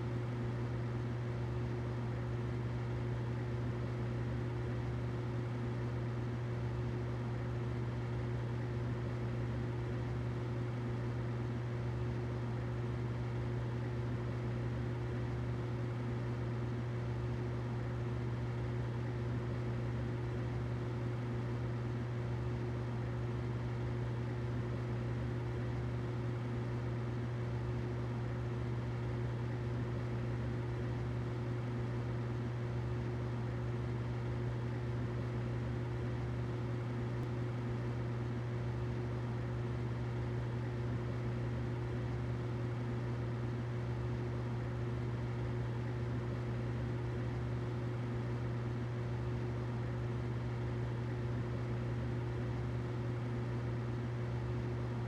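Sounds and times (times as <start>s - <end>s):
humidifier humming and hissing: 0.0s - 55.0s.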